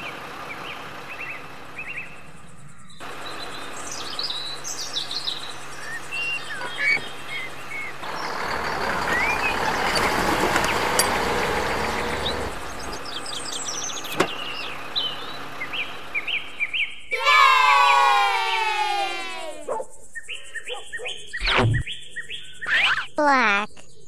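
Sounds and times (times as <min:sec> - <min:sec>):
small birds chirping: 0:00.0 - 0:17.4, 0:19.5 - 0:24.0.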